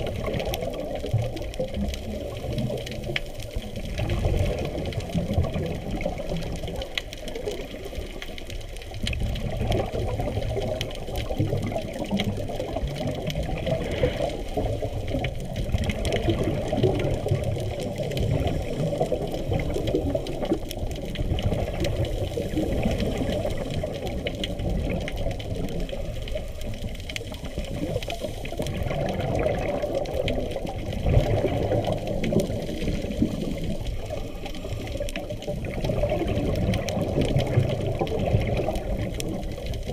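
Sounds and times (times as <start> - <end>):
muffled underwater rushing and bubbling: 0.0 - 39.9.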